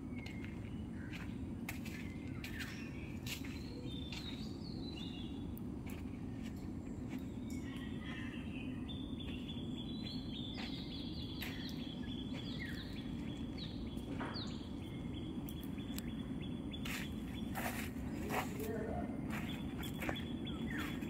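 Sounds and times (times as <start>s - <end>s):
low outdoor rumble: 0.0s - 21.0s
bird chirping: 0.2s - 21.0s.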